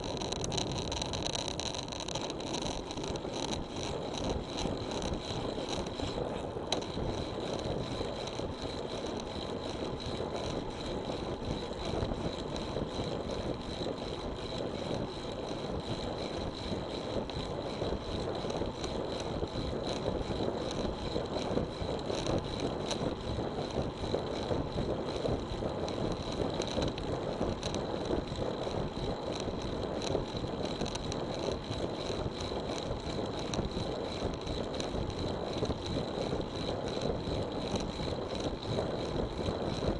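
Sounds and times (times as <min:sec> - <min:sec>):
bicycle tyre road noise: 0:00.0 - 0:39.9.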